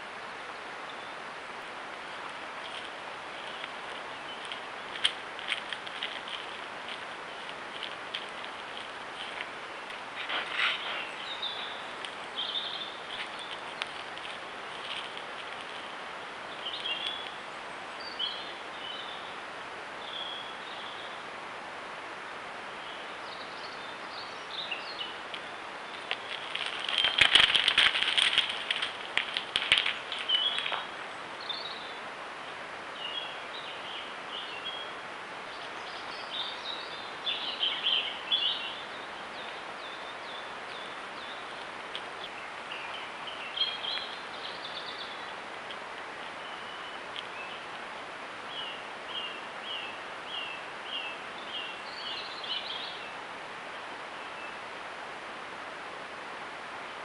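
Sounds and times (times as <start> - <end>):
steady background hiss: 0.0 - 57.0
wild birds chirping: 0.0 - 57.0.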